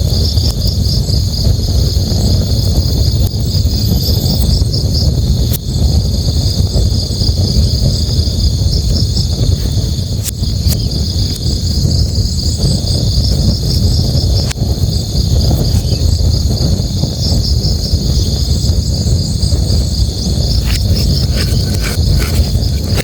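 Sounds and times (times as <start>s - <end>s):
crickets chirping: 0.0s - 23.0s
campfire crackling pops: 4.0s - 23.0s.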